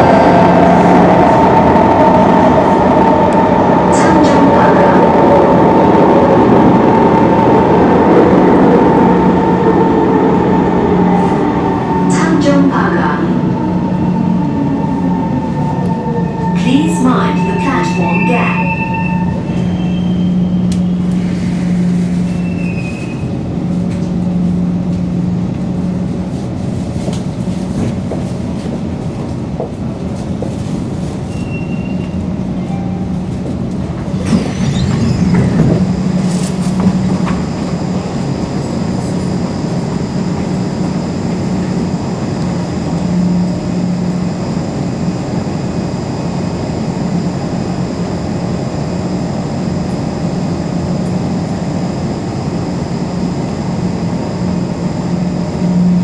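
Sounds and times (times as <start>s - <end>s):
train carriage hum and rumble: 0.0s - 56.0s.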